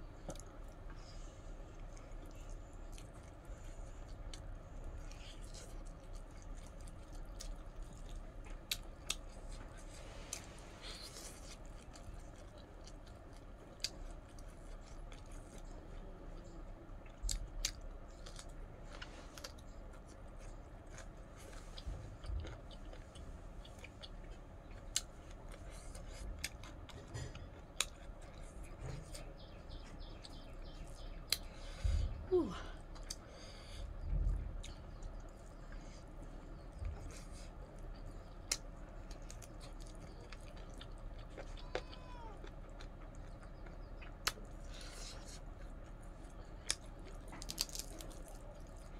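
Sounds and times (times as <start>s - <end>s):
close chewing: 0.0s - 48.9s.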